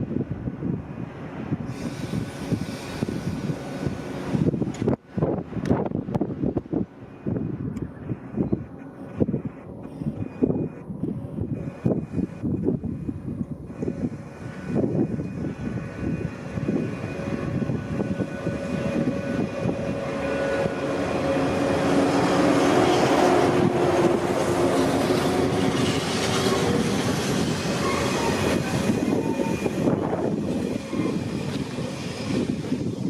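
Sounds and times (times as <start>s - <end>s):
electric train moving: 0.0s - 33.0s
wind buffeting microphone: 0.0s - 33.0s.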